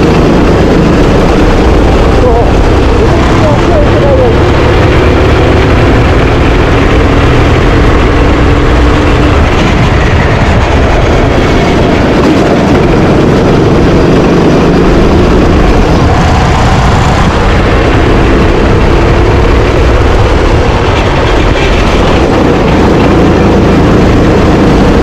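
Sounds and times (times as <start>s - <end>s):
kart engine running: 0.0s - 25.0s.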